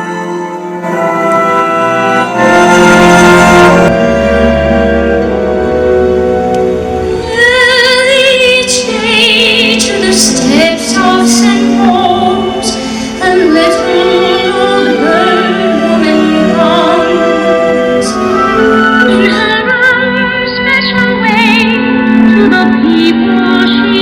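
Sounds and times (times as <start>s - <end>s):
orchestra playing: 0.0s - 24.0s.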